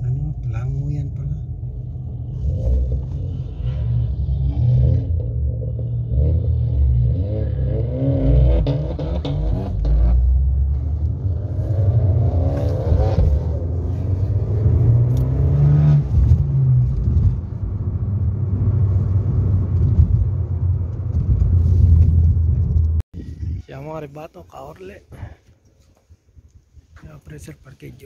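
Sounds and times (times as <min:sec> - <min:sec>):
car engine and road noise: 0:00.0 - 0:23.1.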